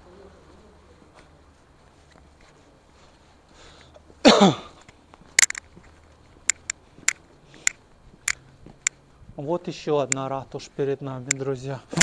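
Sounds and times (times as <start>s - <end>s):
footsteps on paving stones: 0.4s - 11.7s.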